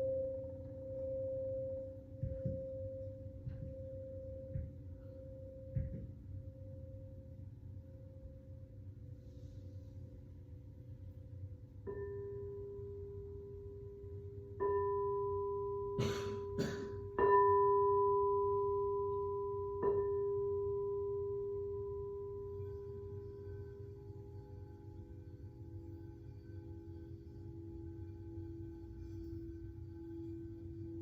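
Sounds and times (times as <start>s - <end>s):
singing bowl ringing: 0.0s - 8.8s, 11.8s - 31.0s.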